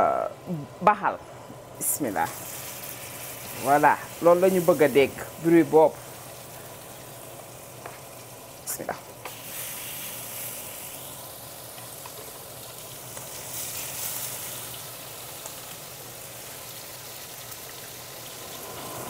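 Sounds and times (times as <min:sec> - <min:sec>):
steaks sizzling in a pan: 0:02.0 - 0:19.0.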